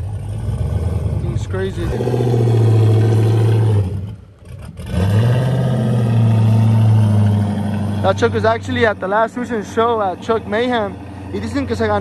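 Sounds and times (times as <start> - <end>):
pickup engine rumbling: 0.0 - 12.0.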